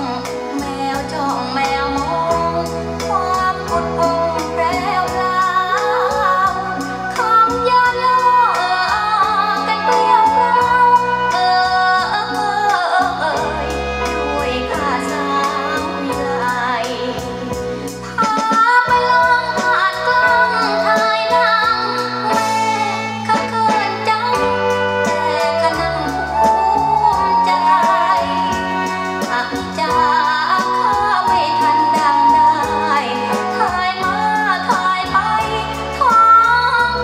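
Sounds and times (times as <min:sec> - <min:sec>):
band playing a steady beat: 0:00.0 - 0:37.0
woman singing over loudspeakers: 0:00.0 - 0:37.0.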